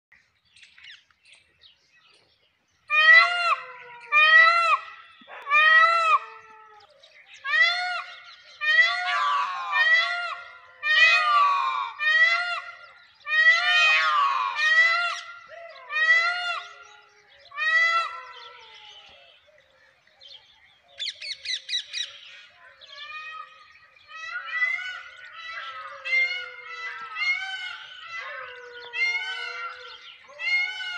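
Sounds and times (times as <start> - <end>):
peacocks wailing calls: 2.8 - 30.9.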